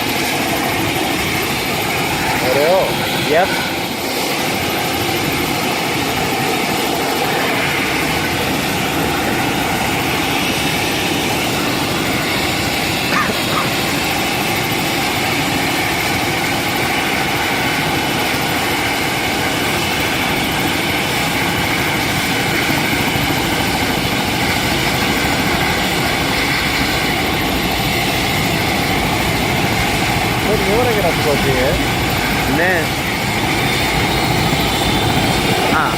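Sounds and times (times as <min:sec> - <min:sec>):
helicopter turbine and rotor: 0:00.0 - 0:35.9.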